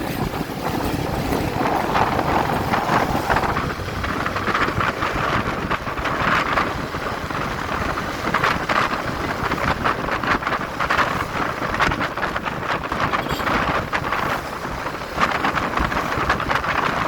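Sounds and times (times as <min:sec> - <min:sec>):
motorcycle running: 0:00.0 - 0:17.0
road noise: 0:00.0 - 0:17.0
wind buffeting microphone: 0:00.0 - 0:17.0.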